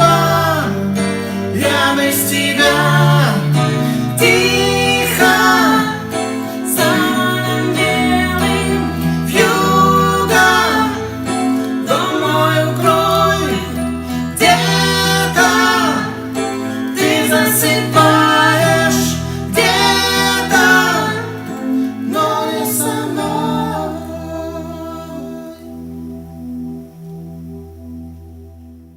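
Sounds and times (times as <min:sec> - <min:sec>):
person singing a slow ballad: 0:00.0 - 0:27.5
keyboard chords: 0:00.0 - 0:28.9.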